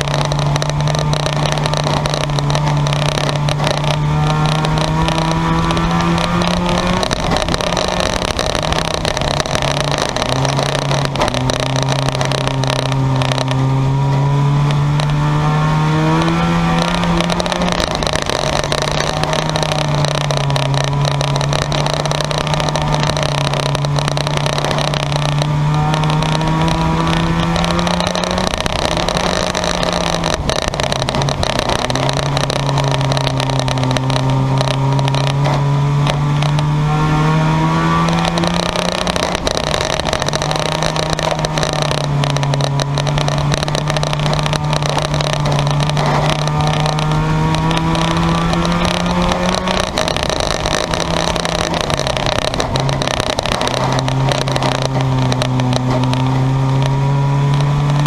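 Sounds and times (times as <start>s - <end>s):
race car engine revving up and down: 0.0s - 58.0s
race car engines: 0.0s - 58.0s.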